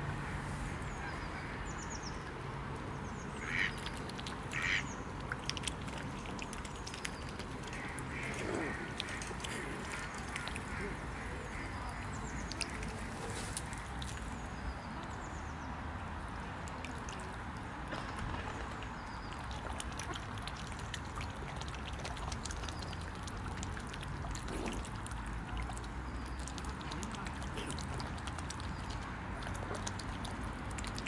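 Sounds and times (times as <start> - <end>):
swans dabbling in water: 0.9 - 15.6, 16.2 - 31.0.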